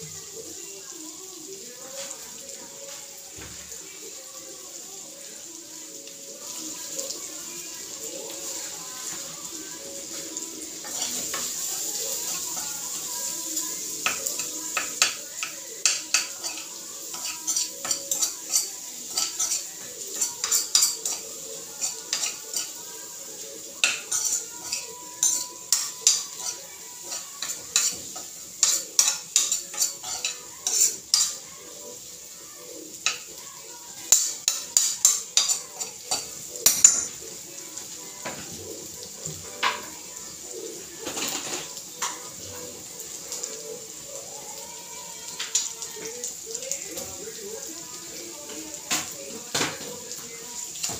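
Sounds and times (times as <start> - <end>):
food sizzling: 0.0 - 50.9.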